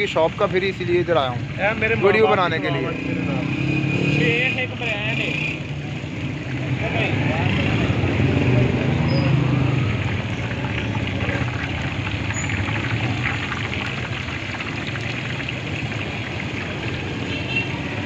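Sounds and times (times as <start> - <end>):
deep-frying sizzle and crackle: 3.0 - 18.0.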